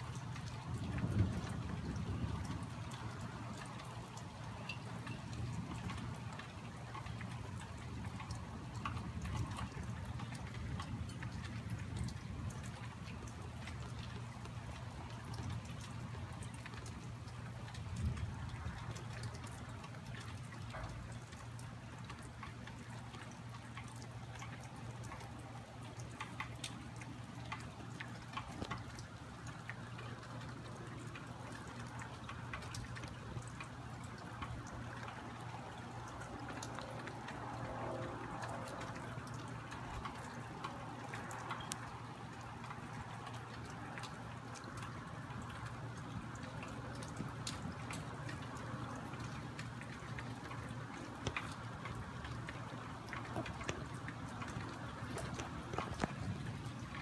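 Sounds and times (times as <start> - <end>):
rain falling and dripping: 0.0 - 57.0.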